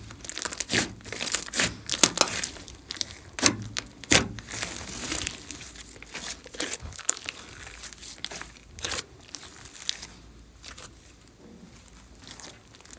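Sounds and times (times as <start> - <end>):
slime popping and crackling: 0.0 - 10.9, 11.8 - 12.9.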